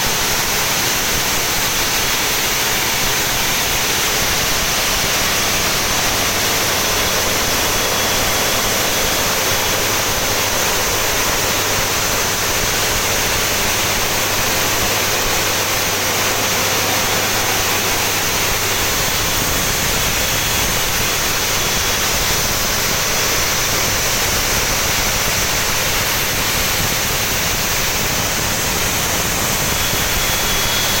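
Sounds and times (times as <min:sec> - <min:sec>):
turbine rushing roar: 0:00.0 - 0:31.0
faint high whine: 0:01.4 - 0:31.0.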